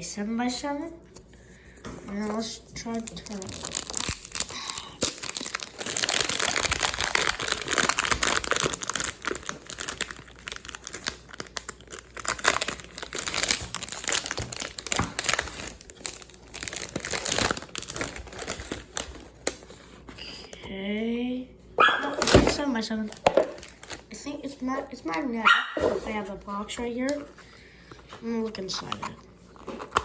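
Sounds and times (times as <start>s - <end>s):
plastic wrapping crinkling: 2.1s - 20.6s, 22.0s - 25.0s, 26.0s - 30.0s.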